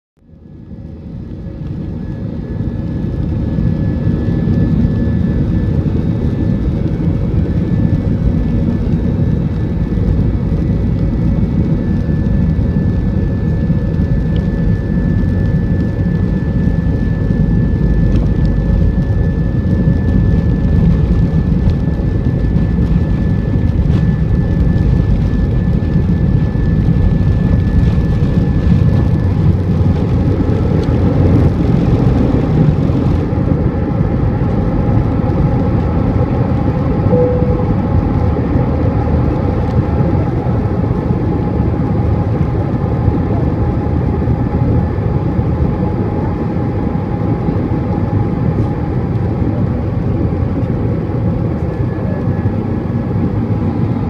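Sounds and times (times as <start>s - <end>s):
jet engines at takeoff power: 0.2s - 54.0s.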